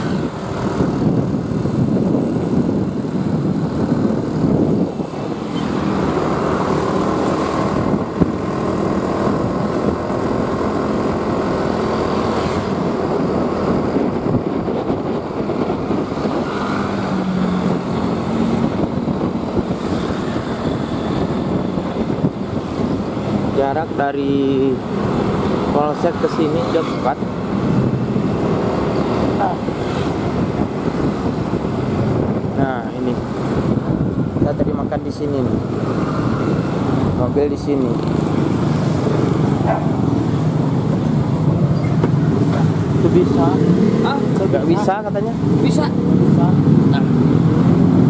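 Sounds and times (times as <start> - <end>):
vehicle engine and road noise: 0.0 - 48.0.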